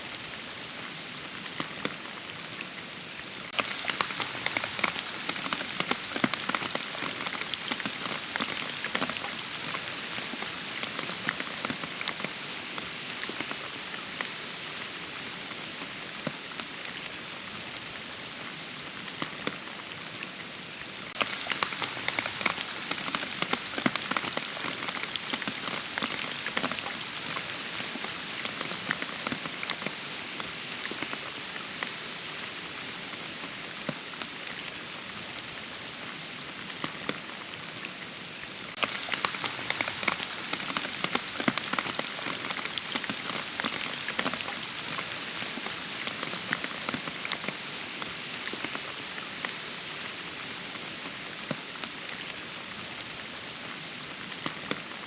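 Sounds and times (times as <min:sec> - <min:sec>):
rain drops pattering: 0:00.0 - 0:55.0.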